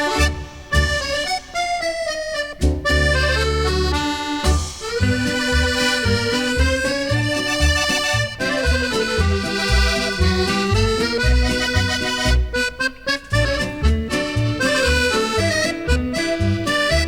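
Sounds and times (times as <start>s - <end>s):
pulsing bass notes: 0.0s - 1.6s, 2.5s - 17.0s
accordion melody: 0.0s - 17.0s
band accompaniment: 0.0s - 17.0s.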